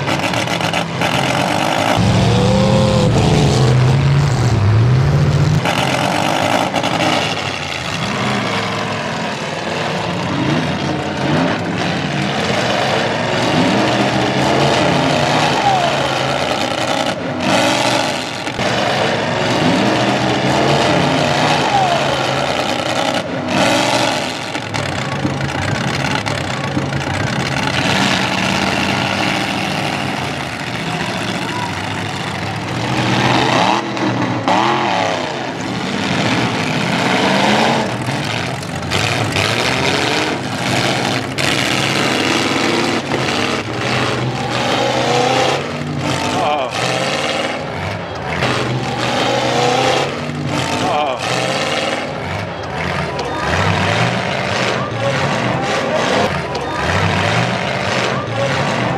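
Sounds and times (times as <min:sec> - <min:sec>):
arena noise: 0:00.0 - 0:58.9
car engines revving: 0:00.0 - 0:58.9.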